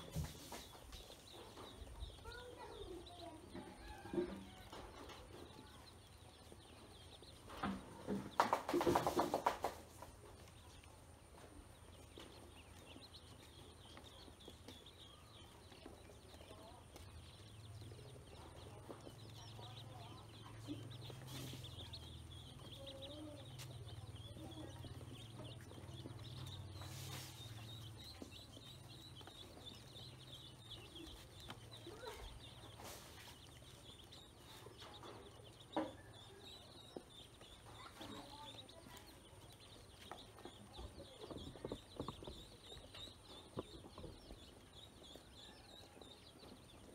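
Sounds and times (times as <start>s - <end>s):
ducklings peeping: 0.0s - 46.9s.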